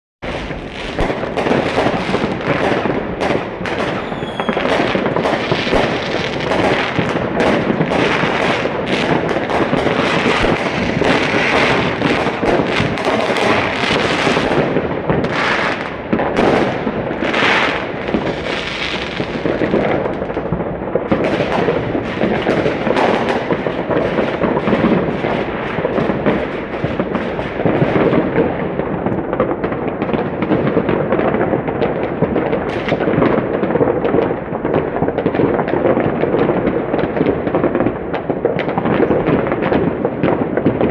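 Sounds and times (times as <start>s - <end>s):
firecrackers crackling: 0.2s - 40.9s
fireworks bangs: 0.2s - 40.9s.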